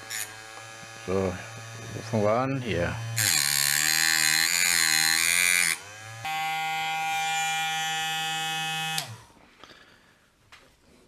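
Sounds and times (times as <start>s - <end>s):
cut-off disc grinding metal: 0.0s - 9.4s
rotary tool motor whine: 0.0s - 9.4s.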